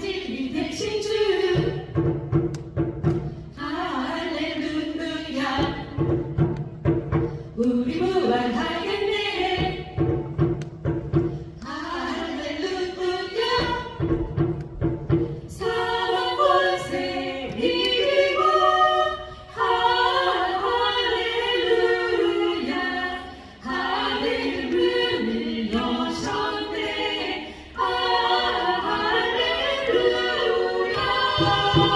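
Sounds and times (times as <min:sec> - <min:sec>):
a cappella group singing a hymn: 0:00.0 - 0:02.3, 0:03.3 - 0:06.5, 0:07.5 - 0:10.3, 0:11.6 - 0:14.6, 0:15.4 - 0:31.9.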